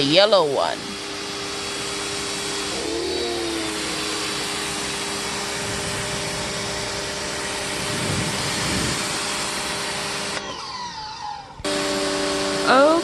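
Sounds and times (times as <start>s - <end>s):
pressure washer spraying water: 0.0s - 13.0s.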